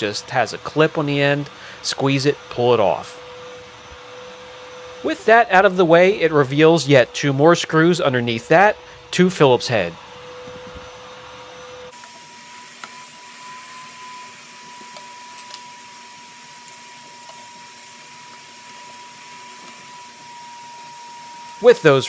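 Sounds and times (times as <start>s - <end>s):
constant high whine: 0.0s - 22.0s.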